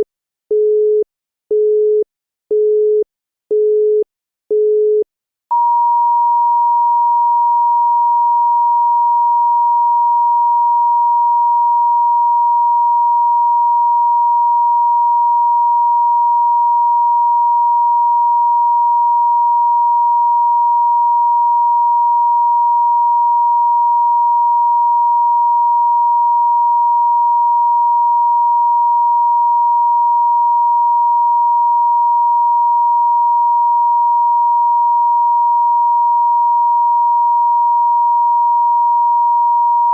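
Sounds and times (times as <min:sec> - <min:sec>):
telephone off-hook tone: 0:00.0 - 0:39.9.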